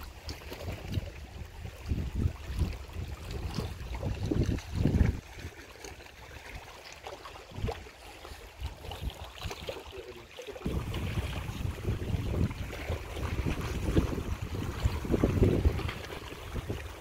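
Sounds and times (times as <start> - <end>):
wind buffeting microphone: 0.0 - 5.6, 7.5 - 9.6, 10.6 - 17.0
small waves lapping on rocks: 0.0 - 17.0.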